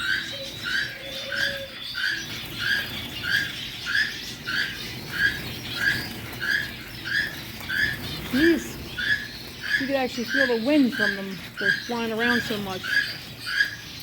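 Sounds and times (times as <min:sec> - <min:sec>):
cage bird chirping: 0:00.0 - 0:14.0.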